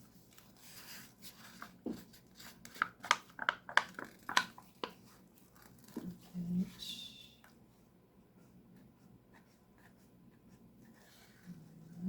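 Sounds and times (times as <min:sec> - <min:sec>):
soft rustle: 0:00.0 - 0:02.9, 0:04.6 - 0:12.0.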